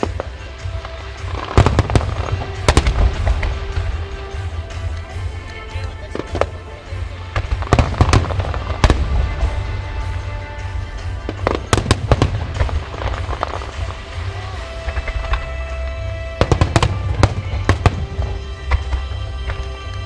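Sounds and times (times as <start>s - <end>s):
fireworks bursting with sharp bangs: 0.0s - 20.0s
music playing: 0.0s - 20.0s
steady low rumble: 0.0s - 20.0s.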